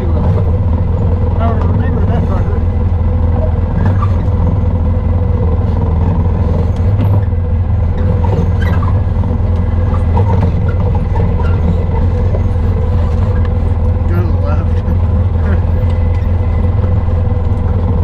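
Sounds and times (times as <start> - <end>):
off-road vehicle engine droning: 0.0 - 18.0.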